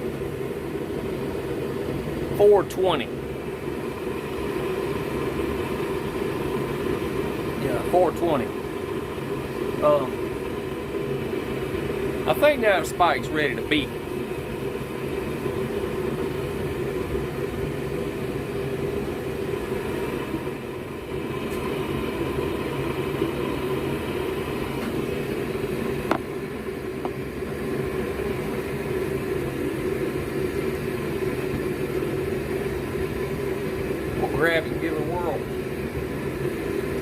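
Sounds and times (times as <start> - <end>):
gas forge burners hissing: 0.0 - 37.0.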